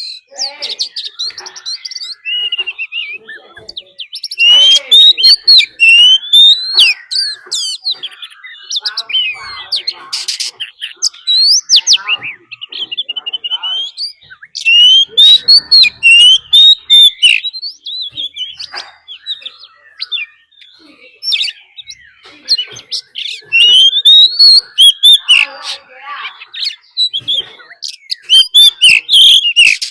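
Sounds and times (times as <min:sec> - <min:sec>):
bird singing whistled phrases: 0:00.0 - 0:25.6, 0:26.2 - 0:29.9.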